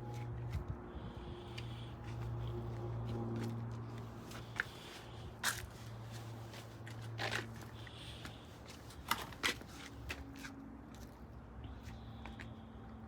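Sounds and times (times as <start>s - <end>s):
footsteps and scuffs: 1.4s - 12.5s.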